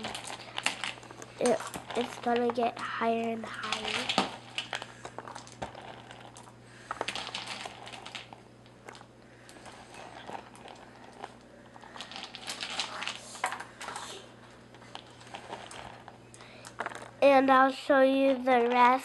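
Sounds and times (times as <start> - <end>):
crayon pieces clicking and rattling: 0.0 - 14.1, 14.7 - 17.1, 18.0 - 19.0.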